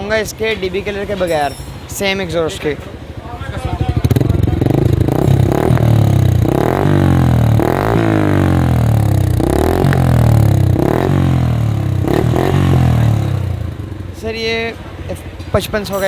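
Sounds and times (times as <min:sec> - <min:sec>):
motorcycle engine idling: 0:01.3 - 0:16.0.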